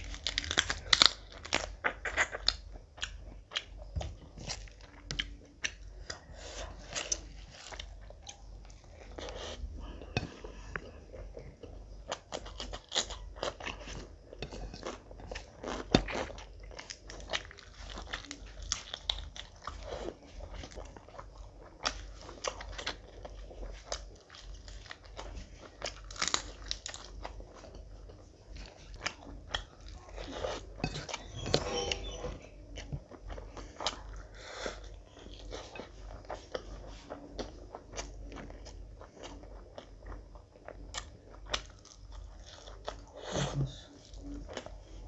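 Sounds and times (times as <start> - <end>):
person chewing and crunching food: 0.0 - 45.0.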